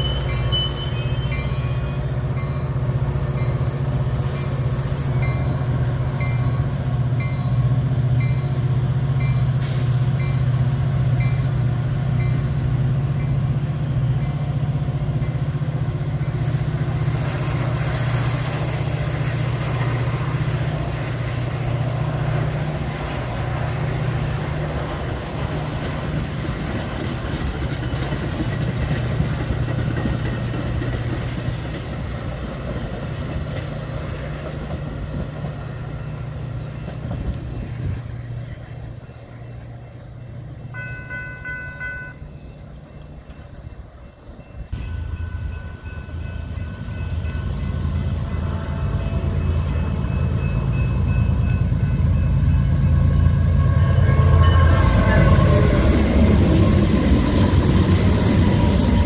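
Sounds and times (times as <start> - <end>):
diesel train engine drone: 0.0 - 59.0
train wheels on rails: 0.0 - 59.0.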